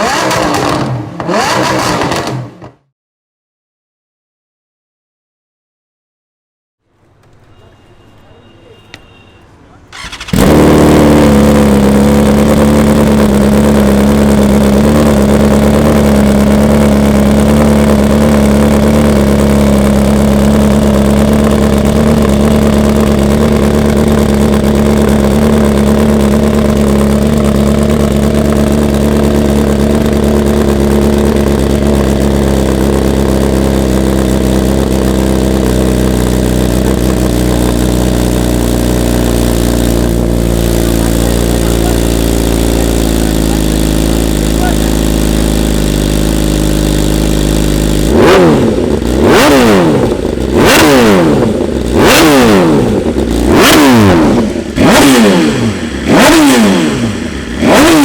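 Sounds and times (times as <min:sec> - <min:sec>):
motorcycle engine fast idle: 0:09.9 - 0:56.4.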